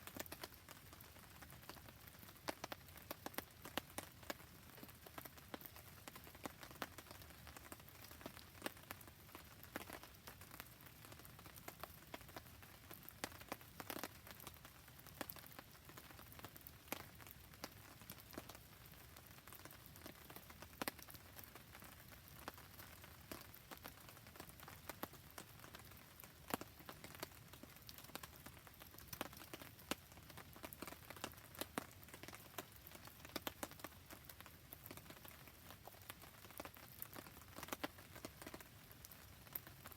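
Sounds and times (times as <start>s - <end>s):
light rain falling: 0.0s - 39.9s
rain ticks and pops: 0.0s - 39.9s.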